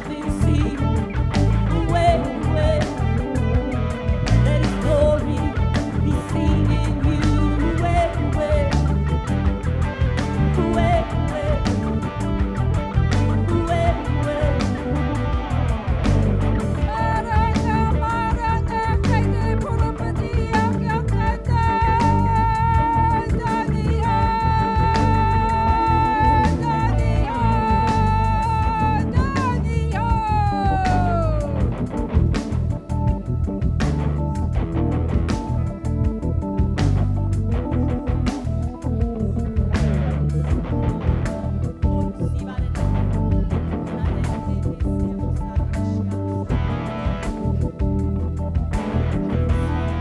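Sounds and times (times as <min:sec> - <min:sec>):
high held melody line: 0:00.0 - 0:50.0
live band playing groove: 0:00.0 - 0:50.0.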